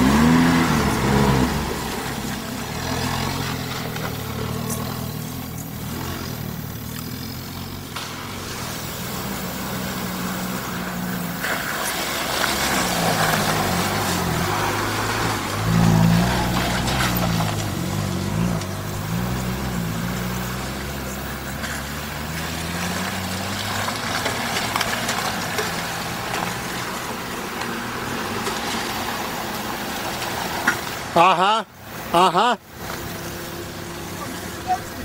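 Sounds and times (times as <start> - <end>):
suv engine revving: 0.0 - 35.0.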